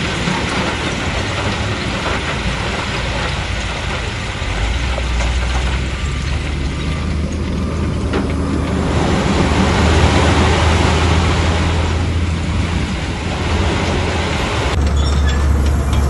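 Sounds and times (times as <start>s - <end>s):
bulldozer diesel engine: 0.0s - 16.0s
crawler tracks grinding and clattering: 0.0s - 16.0s.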